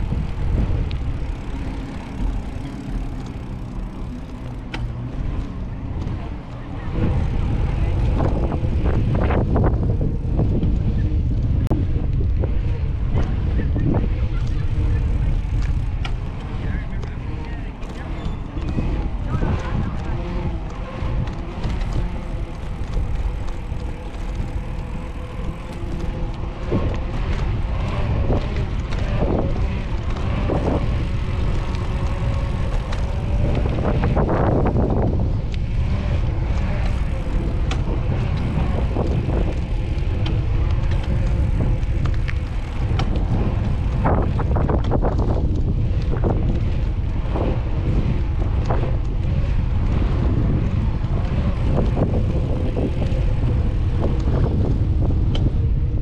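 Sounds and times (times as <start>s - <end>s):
bicycle clicks and knocks: 0.0s - 56.0s
wind buffeting microphone: 0.0s - 56.0s.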